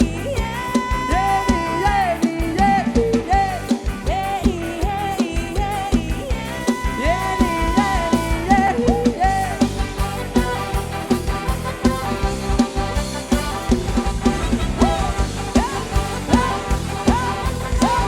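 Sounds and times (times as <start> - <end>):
live band music: 0.0 - 18.0
sliding melodic lead line: 0.0 - 18.0
steady drum beat: 0.0 - 18.0.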